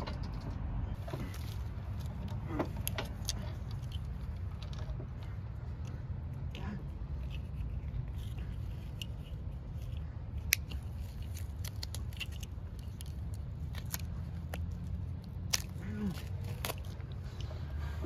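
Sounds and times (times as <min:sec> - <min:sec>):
small sharp clicks and scrapes: 0:00.0 - 0:17.8
low steady rumble: 0:00.0 - 0:18.0.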